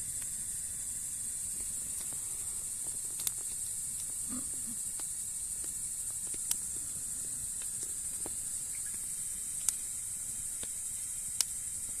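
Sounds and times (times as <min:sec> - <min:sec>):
wood fire hissing and crackling: 0:00.0 - 0:12.0.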